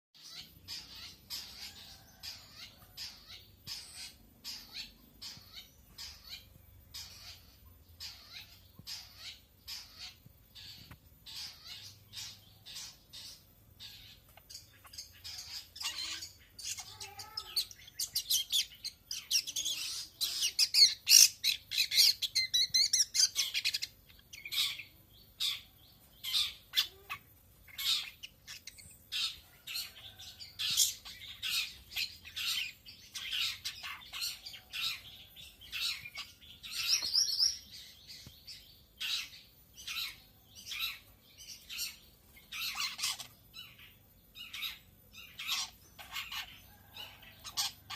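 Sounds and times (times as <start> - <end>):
bird singing rapid song: 0.2 - 47.9.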